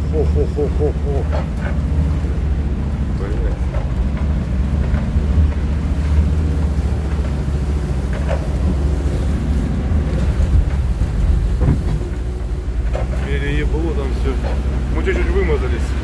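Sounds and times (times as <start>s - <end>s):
mud and water splashing: 0.0s - 16.0s
van engine droning: 0.0s - 16.0s.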